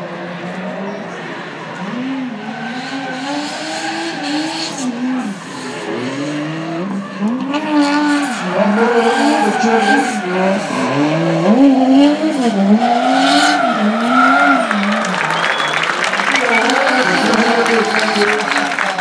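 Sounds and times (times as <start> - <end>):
car engine revving: 0.4 - 19.0.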